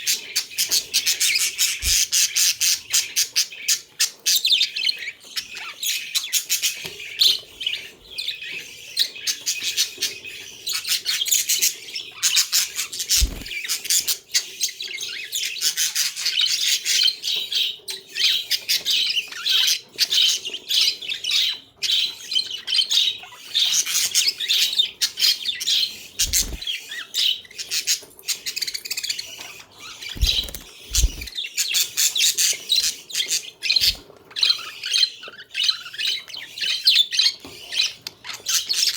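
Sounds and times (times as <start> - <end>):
budgies chattering: 0.0 - 38.9.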